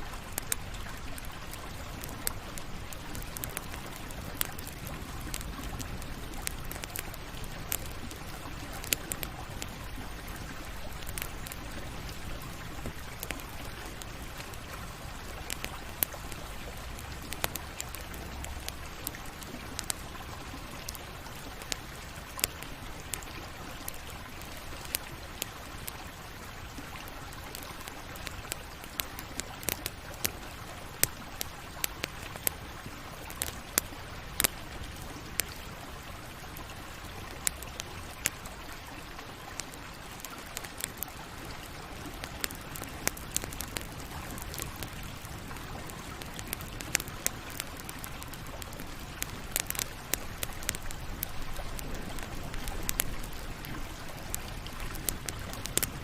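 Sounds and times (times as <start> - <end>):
campfire flames hissing: 0.0 - 56.0
wood crackling and popping: 0.0 - 56.0.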